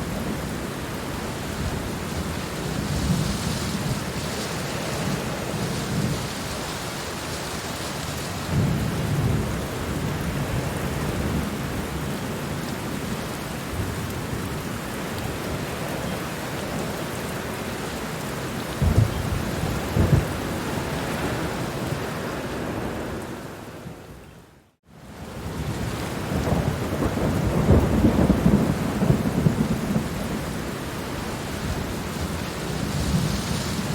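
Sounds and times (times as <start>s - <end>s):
heavy rain hissing: 0.0s - 23.9s, 25.6s - 33.9s.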